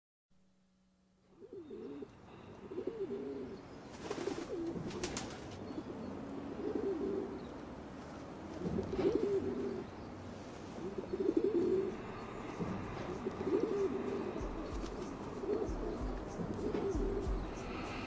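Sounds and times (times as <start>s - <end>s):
pigeons cooing: 1.3s - 7.5s, 8.6s - 10.0s, 10.8s - 18.0s.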